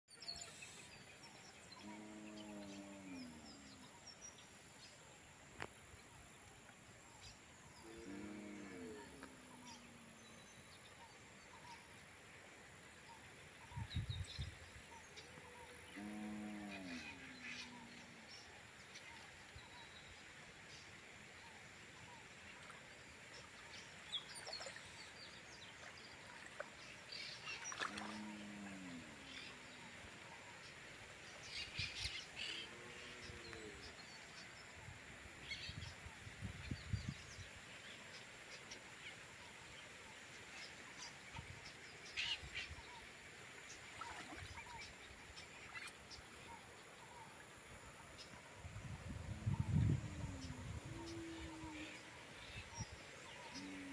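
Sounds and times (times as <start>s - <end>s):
faint steady hiss: 0.1s - 53.9s.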